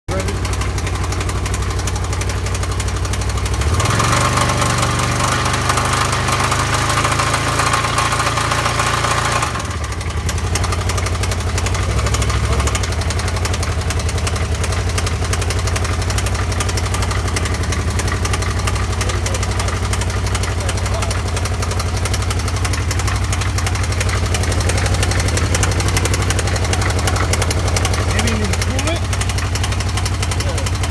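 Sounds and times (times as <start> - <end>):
engine revving with loud knocking: 0.1 - 30.9.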